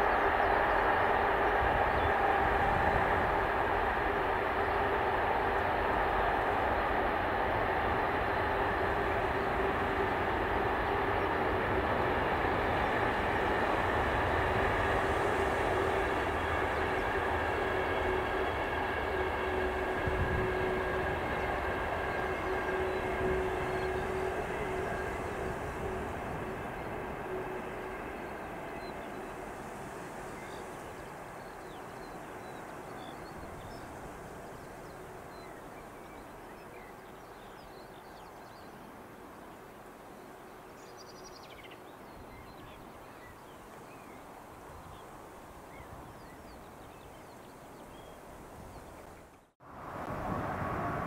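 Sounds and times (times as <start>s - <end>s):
freight train passing: 0.0s - 51.0s
steady train whine: 0.0s - 51.0s.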